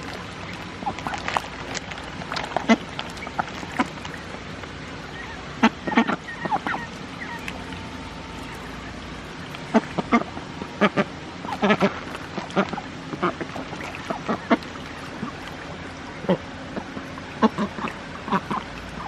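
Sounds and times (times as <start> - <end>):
ducks quacking: 0.4 - 19.0.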